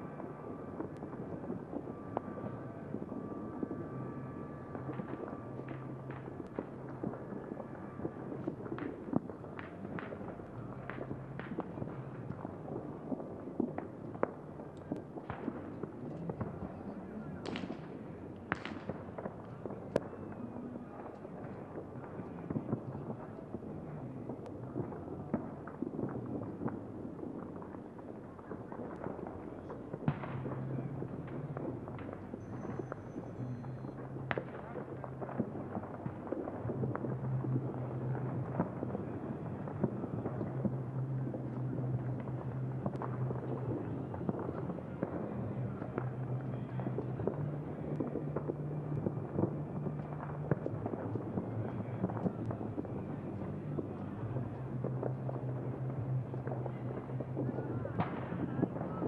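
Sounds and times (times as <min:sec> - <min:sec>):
fireworks bangs: 0:00.0 - 0:59.0
fireworks popping and cracking: 0:00.0 - 0:59.0.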